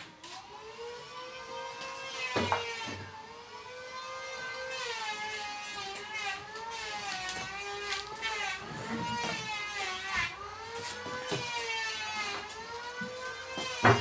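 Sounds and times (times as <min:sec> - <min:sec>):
motor whining: 0:00.2 - 0:14.0.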